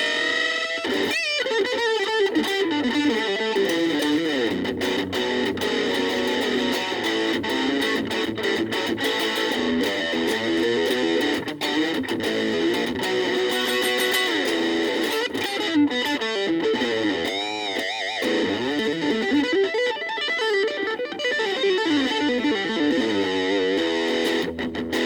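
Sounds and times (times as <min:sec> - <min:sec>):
electric guitar lead lines: 0:00.0 - 0:25.0.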